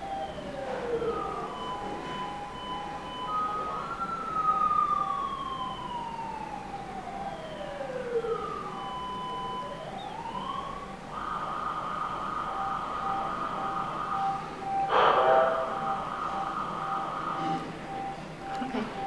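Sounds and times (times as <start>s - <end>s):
faint steady and on-off tones: 0.0s - 19.0s
siren-like wailing tone: 0.0s - 19.0s.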